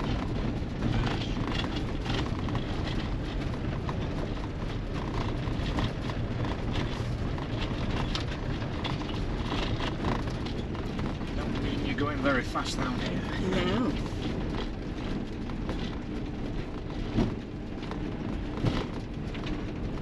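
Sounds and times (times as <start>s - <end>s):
rattles and knocks: 0.0s - 20.0s
vehicle rumble over cobbles: 0.0s - 20.0s.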